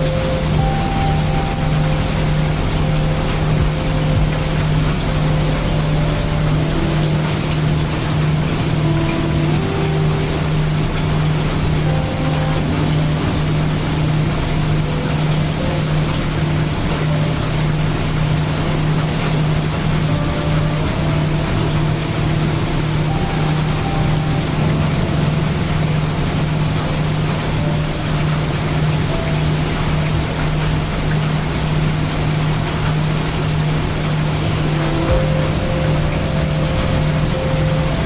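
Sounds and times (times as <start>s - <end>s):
constant low hum: 0.0s - 38.0s
heavy rain hissing: 0.0s - 38.0s.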